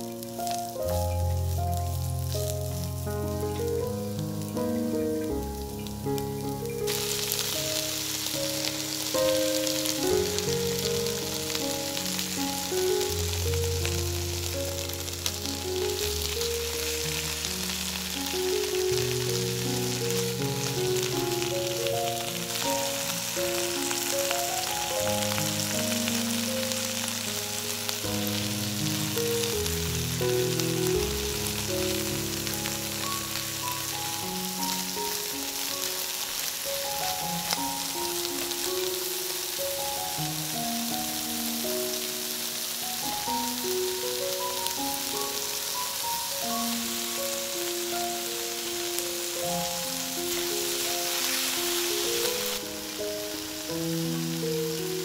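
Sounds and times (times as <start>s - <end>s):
background music with melody: 0.0s - 55.0s
prawns sizzling in hot oil: 0.0s - 55.0s.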